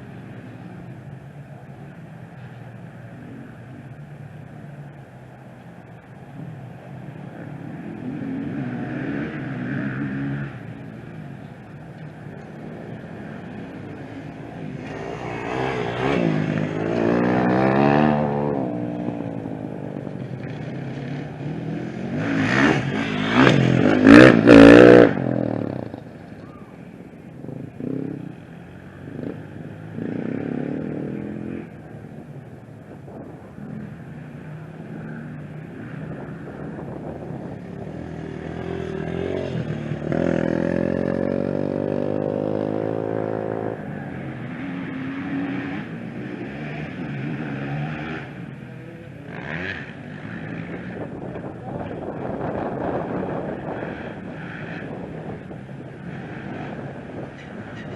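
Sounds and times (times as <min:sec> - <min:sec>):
off-road motorcycle engines revving: 0:00.0 - 0:57.9.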